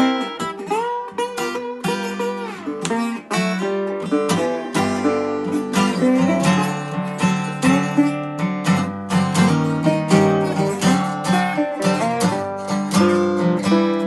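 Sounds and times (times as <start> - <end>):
acoustic guitar blues: 0.0 - 14.0.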